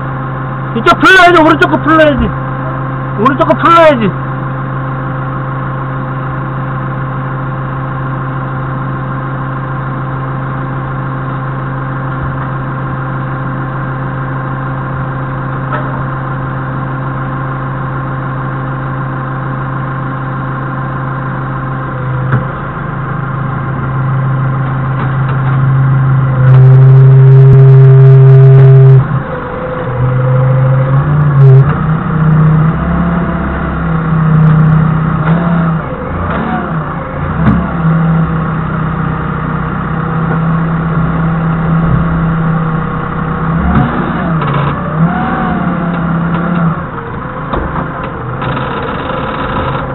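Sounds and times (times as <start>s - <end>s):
forklift engine idling and revving: 0.0s - 49.9s.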